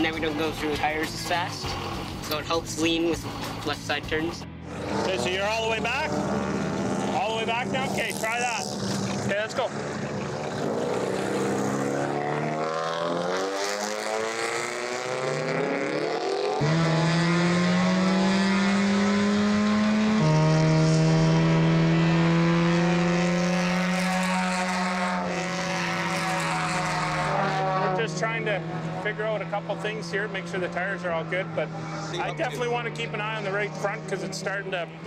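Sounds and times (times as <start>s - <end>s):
car engine accelerating: 0.0s - 35.0s
race car engine at speed: 0.0s - 35.0s.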